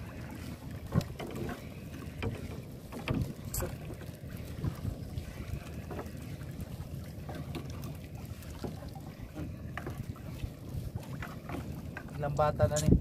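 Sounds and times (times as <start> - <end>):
water against boat hull: 0.0 - 13.0
wind buffeting microphone: 0.0 - 13.0.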